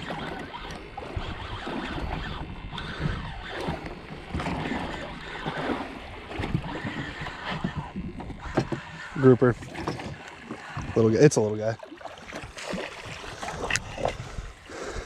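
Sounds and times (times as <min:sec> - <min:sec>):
water and wind rumble: 0:00.0 - 0:15.0.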